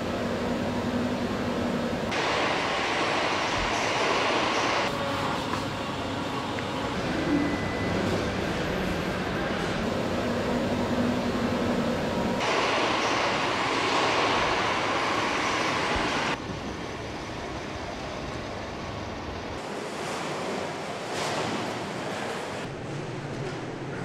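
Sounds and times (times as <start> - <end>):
noisy machinery hum: 0.0 - 24.0.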